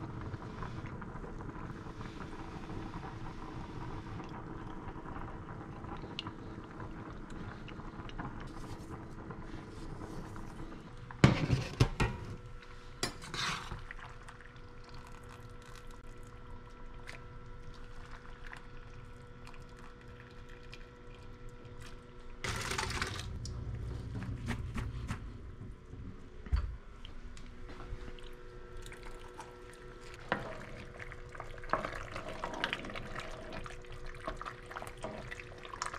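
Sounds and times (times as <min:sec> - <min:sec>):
water boiling in a pot: 0:00.0 - 0:24.4, 0:27.6 - 0:35.9
faint steady hum: 0:00.0 - 0:35.9.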